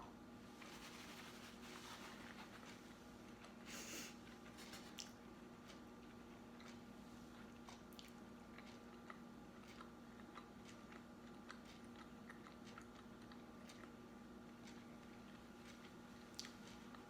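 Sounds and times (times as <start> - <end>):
steady low hum: 0.0 - 17.0
person chewing food: 2.1 - 17.0.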